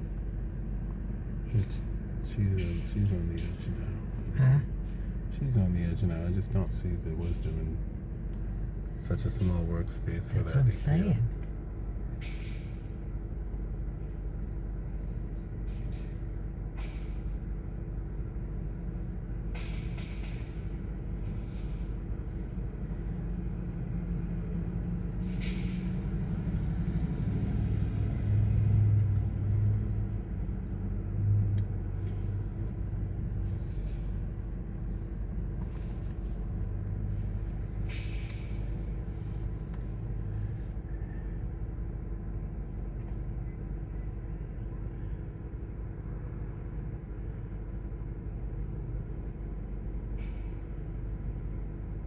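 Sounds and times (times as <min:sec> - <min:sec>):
low engine-like rumble: 0:00.0 - 0:52.0.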